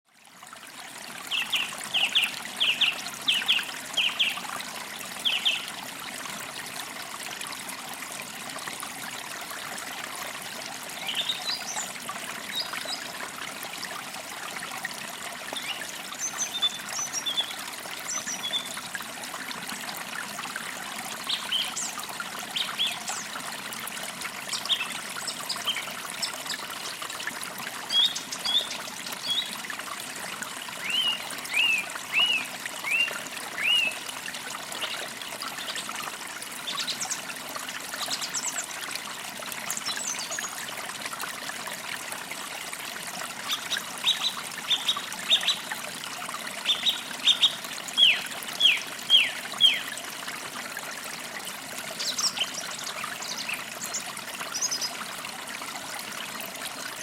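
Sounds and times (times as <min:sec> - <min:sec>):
creek trickling: 0:00.1 - 0:57.0.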